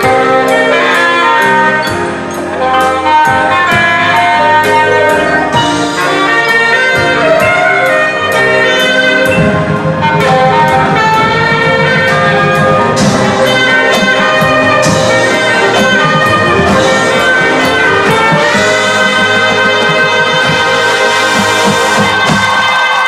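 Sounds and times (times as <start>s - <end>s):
brass sustaining loud chords: 0.0s - 23.0s
marching drums: 0.0s - 23.0s.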